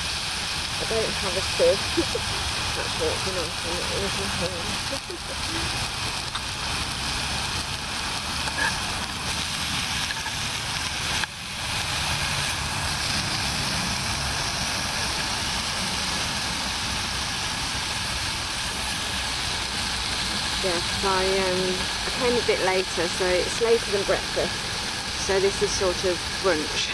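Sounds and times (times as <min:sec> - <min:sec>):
bacon sizzling in frying pan: 0:00.0 - 0:26.9.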